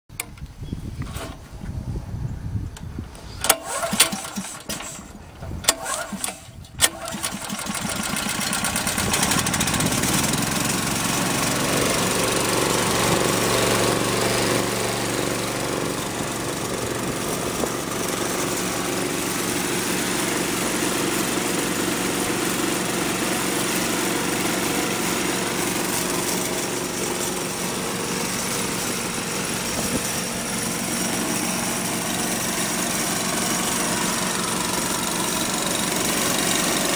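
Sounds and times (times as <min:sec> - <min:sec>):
recoil starter pulls: 0:02.8 - 0:36.9
compressor engine running: 0:03.4 - 0:36.9.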